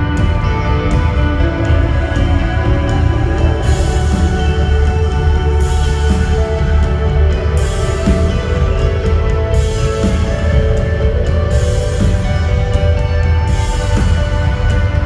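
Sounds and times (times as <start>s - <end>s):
indie rock song: 0.0s - 15.0s.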